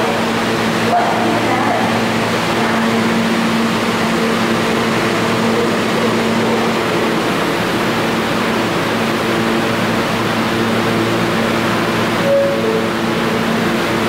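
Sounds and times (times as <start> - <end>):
train air-conditioning hiss: 0.0 - 14.0.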